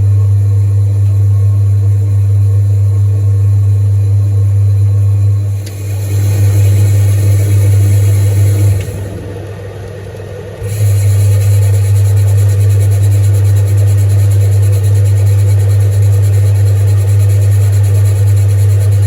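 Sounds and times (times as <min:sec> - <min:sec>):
blower motor: 0:00.0 - 0:19.0
tumble dryer motor hum: 0:00.0 - 0:19.0.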